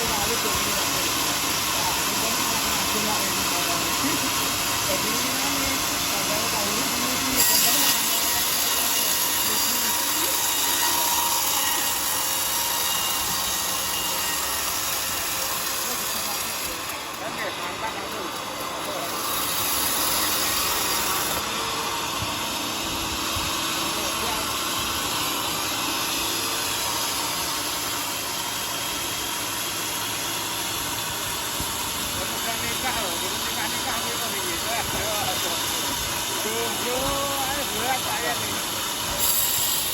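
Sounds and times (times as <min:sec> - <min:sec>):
power saw cutting wood: 0:00.0 - 0:39.9
sawmill machinery whirring: 0:00.0 - 0:39.9.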